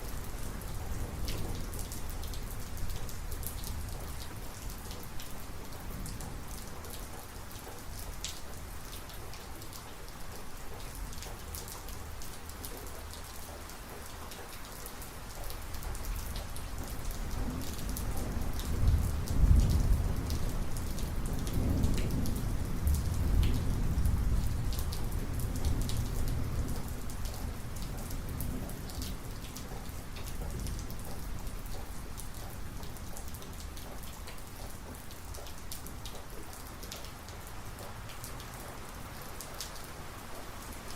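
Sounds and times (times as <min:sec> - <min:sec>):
heavy rain: 0:00.0 - 0:40.9
raindrop ticks: 0:00.2 - 0:40.9.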